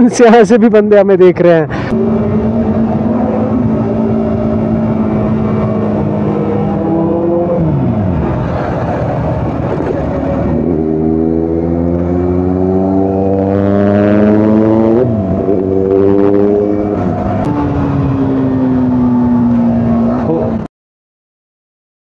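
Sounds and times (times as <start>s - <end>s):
motorcycle engine running: 1.9s - 20.6s.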